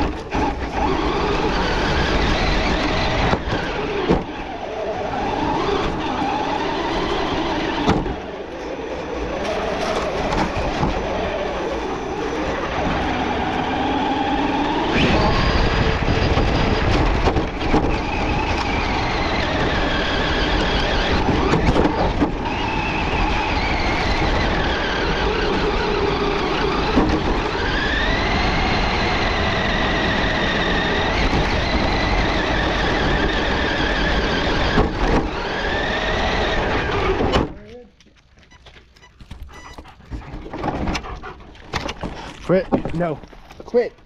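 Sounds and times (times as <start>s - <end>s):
rc truck motor whine: 0.0s - 37.4s
wheels rattling on ground: 0.0s - 44.0s.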